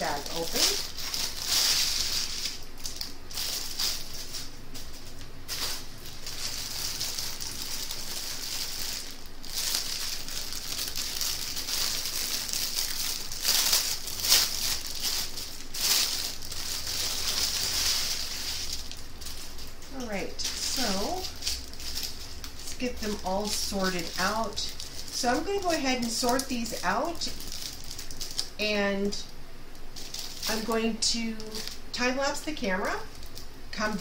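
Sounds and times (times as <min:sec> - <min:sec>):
plastic bags crinkling: 0:00.0 - 0:34.0.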